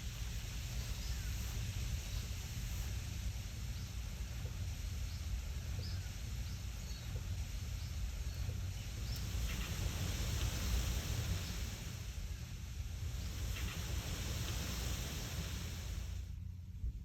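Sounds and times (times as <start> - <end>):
leaves rustling in wind: 0.0 - 17.0
wind rumble on microphone: 0.0 - 17.0.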